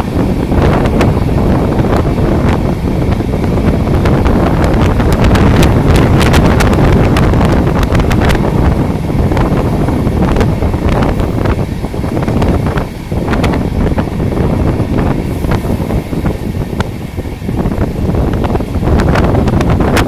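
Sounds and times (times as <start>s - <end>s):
train rumble: 0.0s - 20.0s
wind buffeting microphone: 0.0s - 20.0s.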